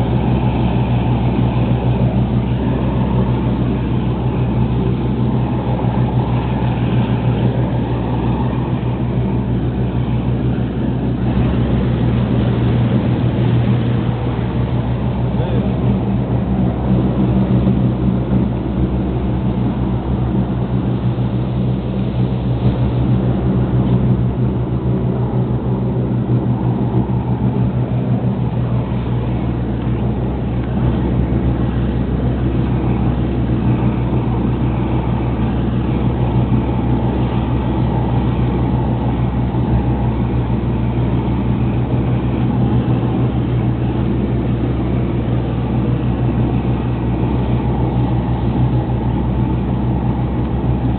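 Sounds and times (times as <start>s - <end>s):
boat engine droning: 0.0s - 50.9s
water rushing past hull: 0.0s - 50.9s.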